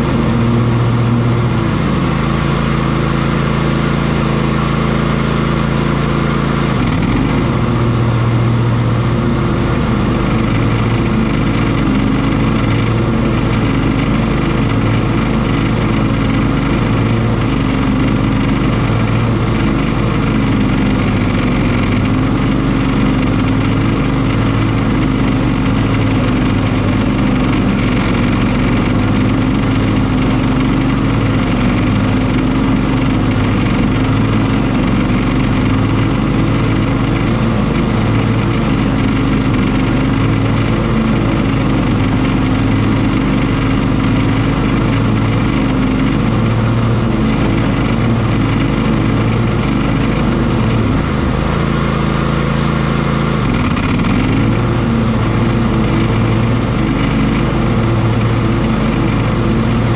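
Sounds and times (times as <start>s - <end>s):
riding lawn mower running: 0.0s - 59.9s.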